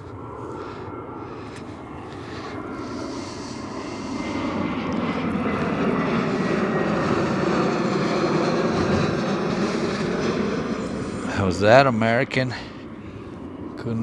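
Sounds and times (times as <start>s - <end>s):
faint engine whine: 0.0s - 14.0s
jet airliner passing close: 0.0s - 14.0s.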